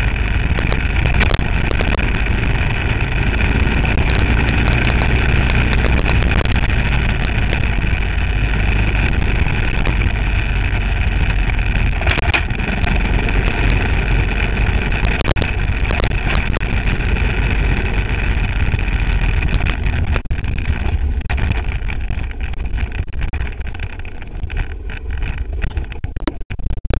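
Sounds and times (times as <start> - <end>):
motorcycle engine running: 0.0 - 26.8.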